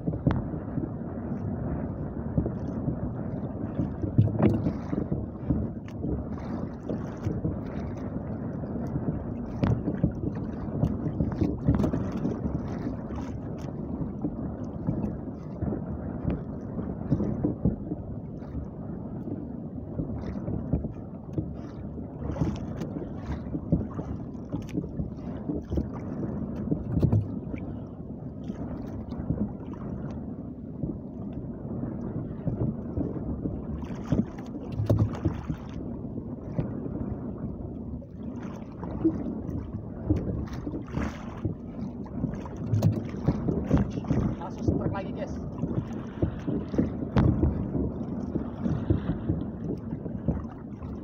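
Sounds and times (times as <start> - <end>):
water slapping against boat hull: 0.0 - 51.0
wind buffeting microphone: 0.0 - 51.0.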